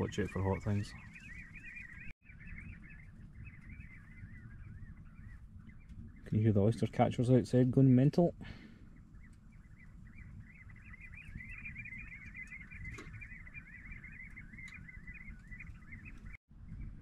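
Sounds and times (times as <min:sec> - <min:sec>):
birds piping shrilly: 0:00.0 - 0:16.4.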